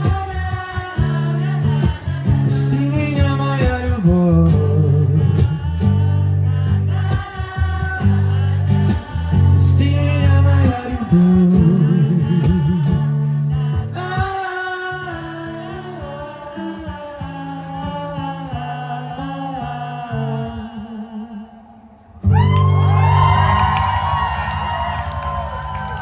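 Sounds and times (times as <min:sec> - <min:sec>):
acoustic guitar: 0:00.0 - 0:26.0.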